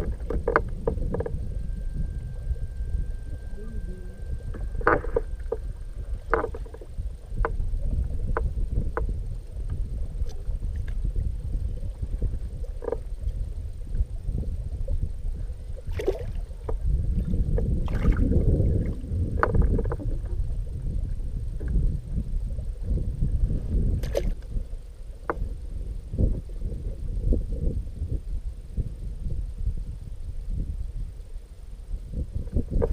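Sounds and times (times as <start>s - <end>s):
wind and water rumble: 0.0s - 32.9s.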